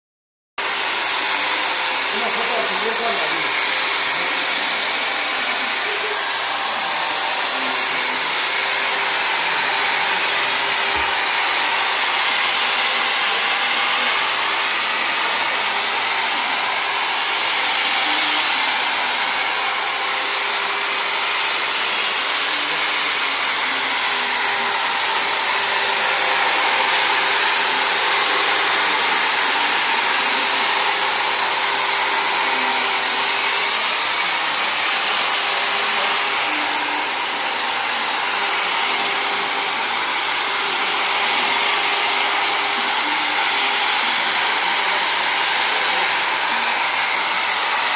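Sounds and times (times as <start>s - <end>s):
electric polisher motor whine: 0.6s - 47.9s.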